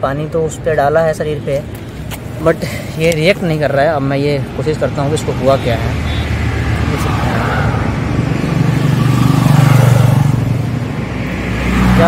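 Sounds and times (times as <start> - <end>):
steady traffic noise: 0.0 - 12.0
vehicle passing: 1.9 - 12.0.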